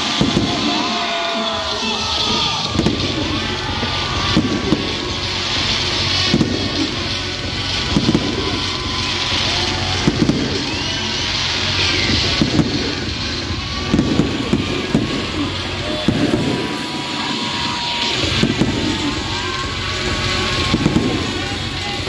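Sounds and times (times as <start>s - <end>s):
firework shells bursting: 0.0s - 22.0s
steady background din: 0.0s - 22.0s.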